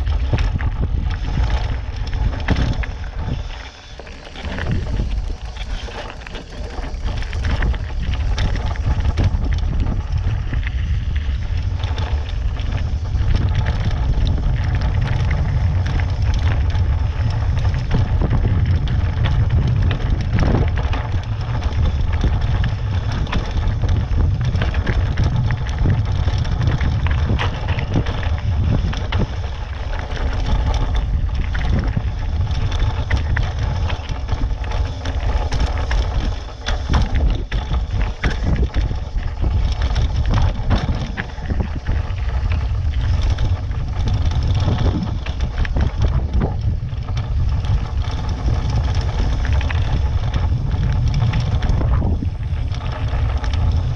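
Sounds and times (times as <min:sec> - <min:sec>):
bike rattling: 0:00.0 - 0:53.9
tyres crunching over stones: 0:00.0 - 0:53.9
wind rumble on microphone: 0:00.0 - 0:53.9.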